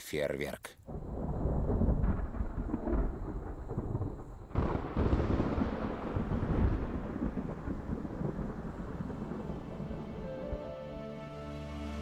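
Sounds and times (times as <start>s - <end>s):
thunder rumbling: 0.9s - 11.0s.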